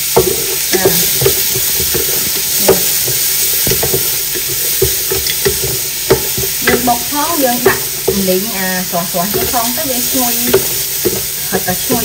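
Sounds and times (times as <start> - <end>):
food sizzling in a pot: 0.0 - 12.0
spatula knocking and scraping pot: 0.0 - 12.0.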